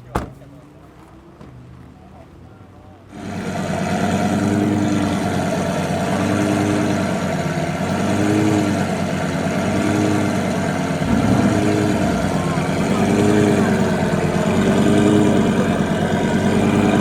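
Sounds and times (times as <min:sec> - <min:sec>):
car engine idling: 0:01.0 - 0:17.0.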